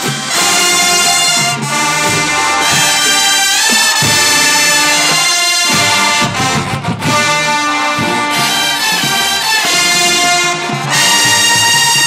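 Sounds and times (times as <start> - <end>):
brass band playing fanfare: 0.0 - 12.0.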